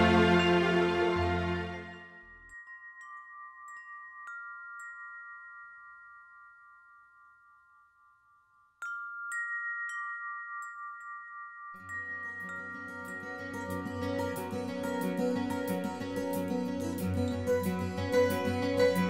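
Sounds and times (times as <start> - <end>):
soft chime-like background music: 0.0 - 19.0.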